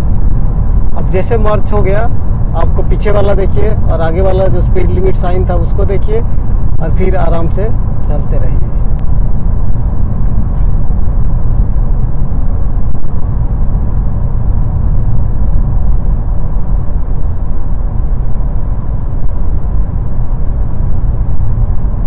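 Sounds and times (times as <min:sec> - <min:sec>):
road and tyre noise inside car: 0:00.0 - 0:22.0.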